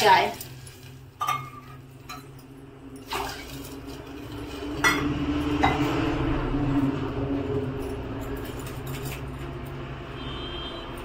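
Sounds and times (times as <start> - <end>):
metal utensils clinking: 0.0 - 9.9.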